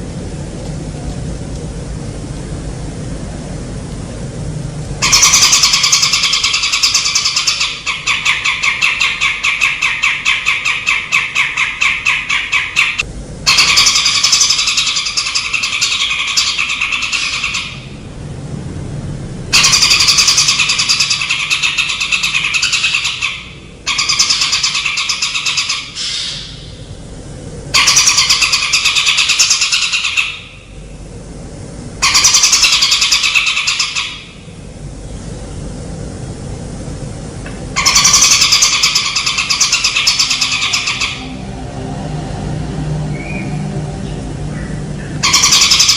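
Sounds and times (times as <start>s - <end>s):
songbird buzzy trill: 5.0s - 18.1s, 19.6s - 31.4s, 32.0s - 45.9s.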